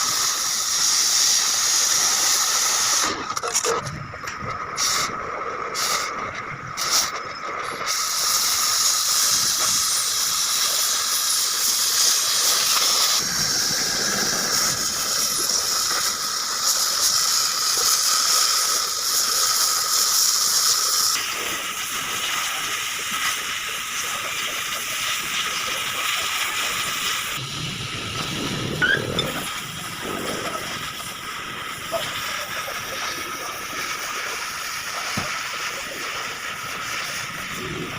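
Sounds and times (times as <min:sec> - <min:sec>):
cutting torch hissing: 0:00.0 - 0:37.9.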